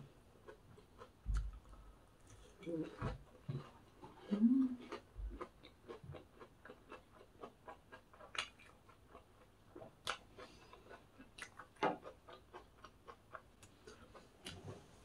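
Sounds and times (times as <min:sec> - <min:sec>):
crunching of fried food eaten: 0:00.4 - 0:02.6, 0:04.8 - 0:14.7.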